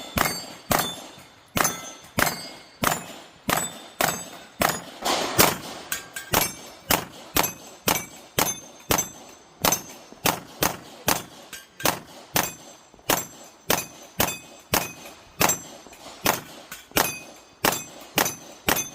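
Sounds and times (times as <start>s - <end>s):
pistol shots: 0.0s - 18.9s
steel targets ringing: 0.0s - 18.9s.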